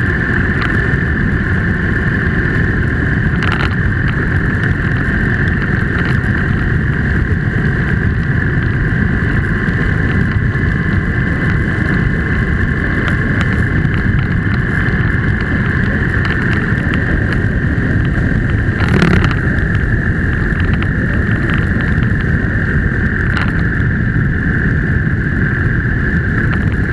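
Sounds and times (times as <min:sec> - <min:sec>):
road and engine rumble: 0:00.0 - 0:26.9
steady high whine: 0:00.0 - 0:26.9.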